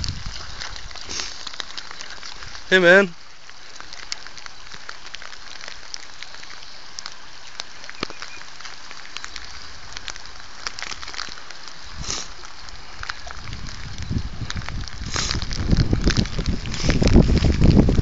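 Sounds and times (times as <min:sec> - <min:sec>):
sharp ticks and crackles: 0:00.0 - 0:18.0
steady hiss: 0:00.0 - 0:18.0.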